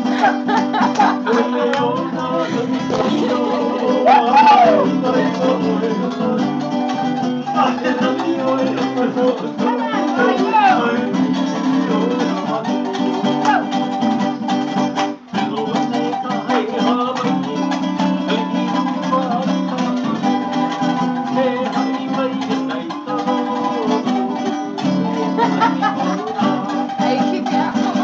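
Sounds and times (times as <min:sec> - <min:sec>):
acoustic string instruments strummed: 0:00.0 - 0:28.0.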